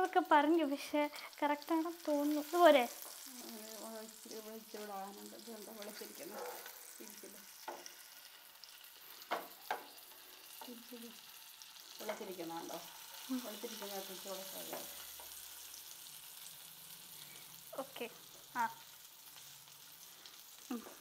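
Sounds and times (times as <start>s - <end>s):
chicken sizzling in a frying pan: 0.0s - 21.0s.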